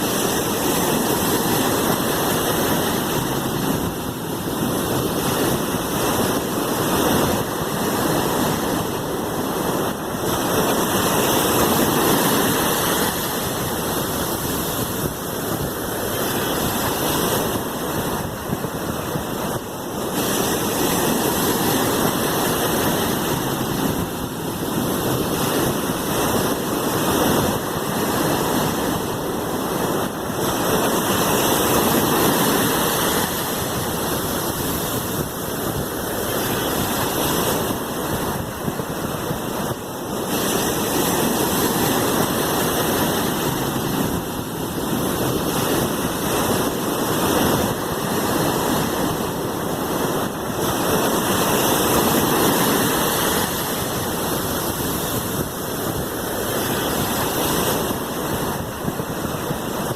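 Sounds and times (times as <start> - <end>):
sea waves surf: 0.0 - 59.9.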